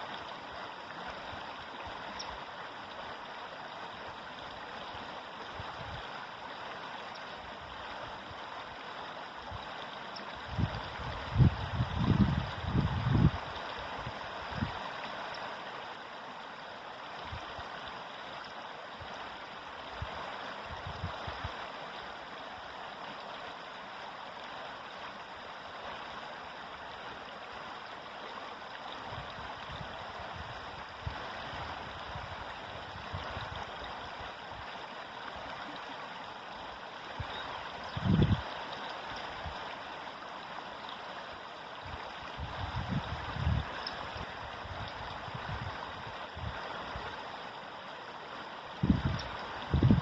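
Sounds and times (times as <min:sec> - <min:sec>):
river water rushing over rocks: 0:00.0 - 0:50.0.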